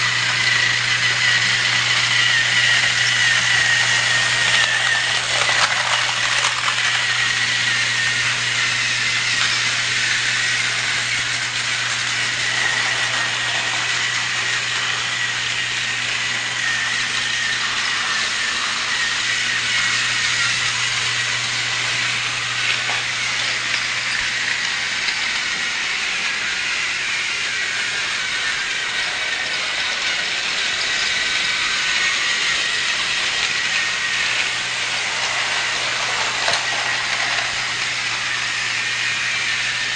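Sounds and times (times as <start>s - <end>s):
toy train motor whining: 0.0s - 39.9s.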